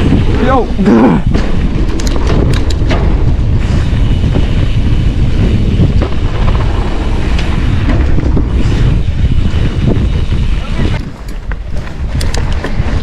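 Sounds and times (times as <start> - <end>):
sharp rattles: 0.0 - 13.0
tyres rumbling on dirt: 0.0 - 13.0
wind buffeting microphone: 0.0 - 13.0.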